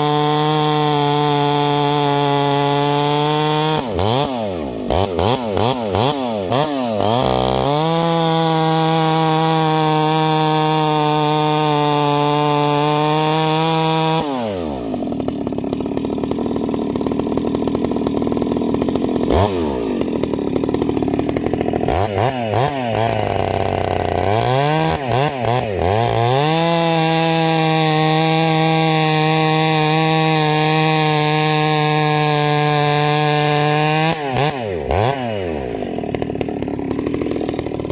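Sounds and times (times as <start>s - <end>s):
chainsaw cutting at full throttle: 0.0s - 37.9s.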